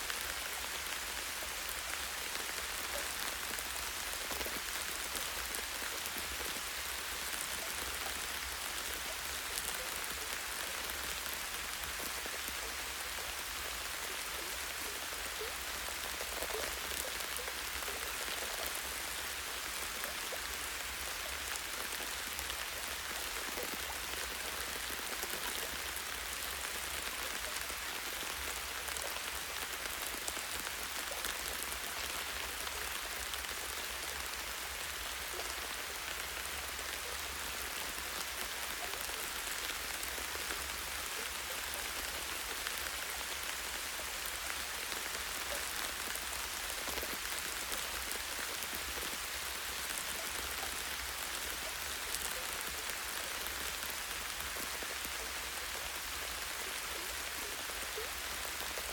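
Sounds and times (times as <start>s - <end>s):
light rain on leaves: 0.0s - 58.9s.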